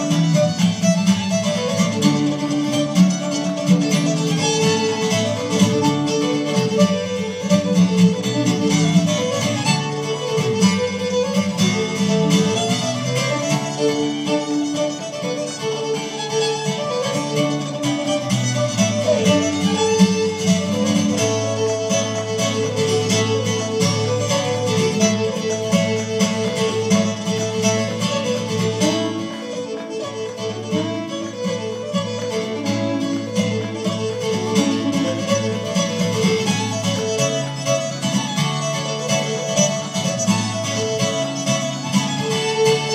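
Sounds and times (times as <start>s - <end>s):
acoustic guitar strumming chords: 0.0s - 42.9s
fiddle playing rapid melody: 0.0s - 42.9s.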